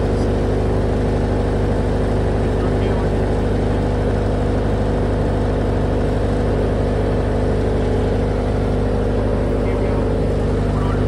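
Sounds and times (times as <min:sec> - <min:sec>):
diesel generator running: 0:00.0 - 0:11.0.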